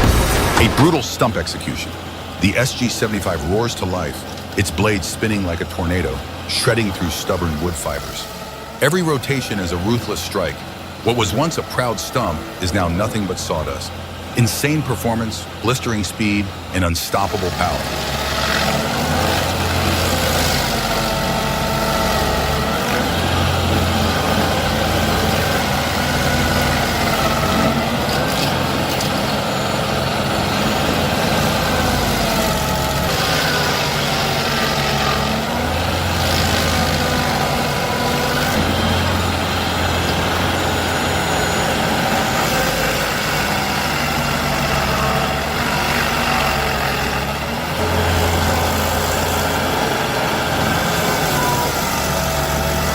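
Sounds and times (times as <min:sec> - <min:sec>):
heavy machine engine running: 0:00.0 - 0:52.9.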